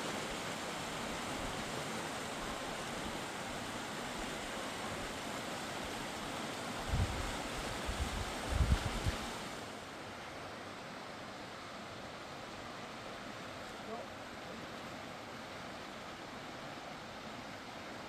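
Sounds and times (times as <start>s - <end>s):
mountain river rushing: 0.0s - 18.0s.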